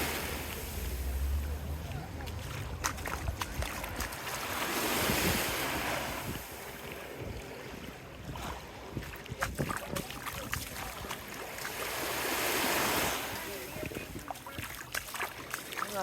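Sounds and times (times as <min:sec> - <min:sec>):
wind rumbling on microphone: 0:00.0 - 0:15.6
small waves washing on sand: 0:00.0 - 0:16.0.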